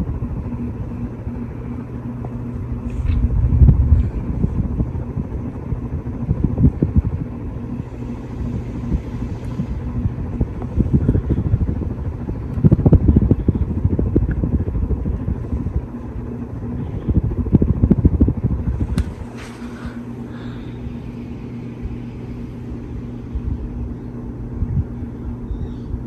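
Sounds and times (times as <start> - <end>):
ceiling fan rumble: 0.0 - 26.0
low hum: 0.0 - 26.0.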